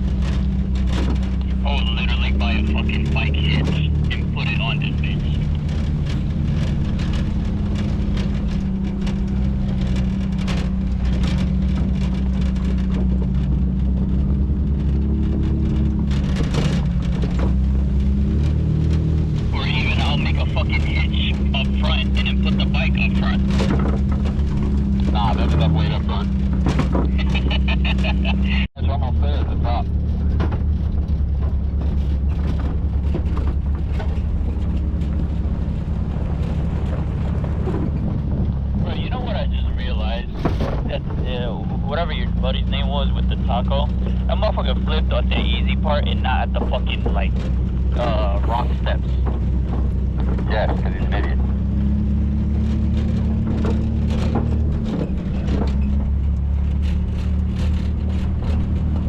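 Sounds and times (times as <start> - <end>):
knocks and rattles: 0.0 - 43.0, 43.6 - 59.0
vehicle engine running: 0.0 - 59.0.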